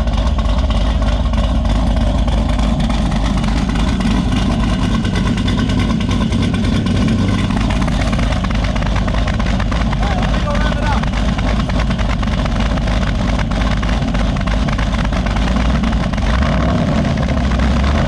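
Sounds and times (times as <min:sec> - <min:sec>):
car engine idling with whistling exhaust: 0:00.0 - 0:18.0.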